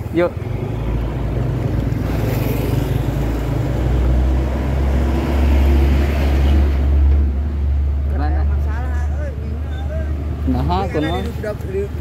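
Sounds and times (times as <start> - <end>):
truck diesel engine passing: 0.0 - 10.9.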